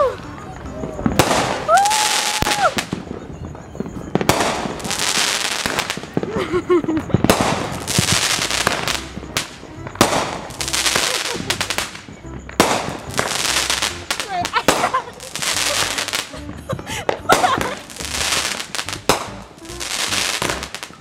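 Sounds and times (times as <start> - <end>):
fireworks bursting: 0.0 - 21.0
fireworks crackling: 0.0 - 21.0.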